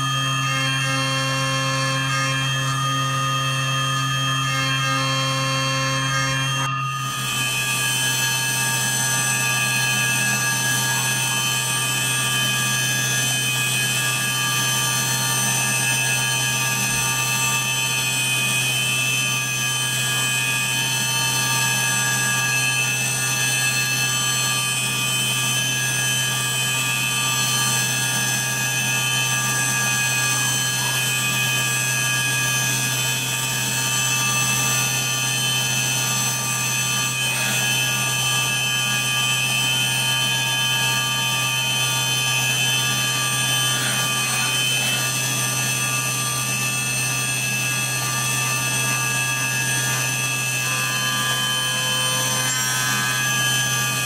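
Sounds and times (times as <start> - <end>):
milling machine whine: 0.0 - 54.0.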